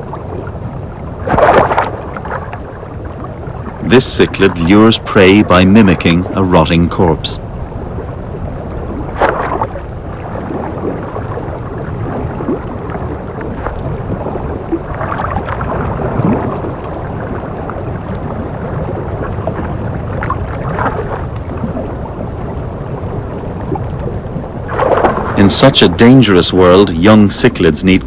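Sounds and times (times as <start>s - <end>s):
low rumbling underwater noise: 0.0s - 28.0s.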